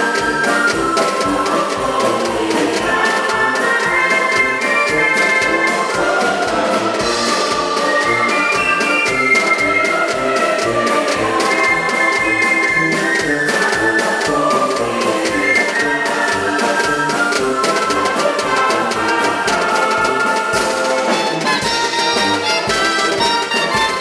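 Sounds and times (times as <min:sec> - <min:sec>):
drum kit beat: 0:00.0 - 0:24.0
wind band playing: 0:00.0 - 0:24.0.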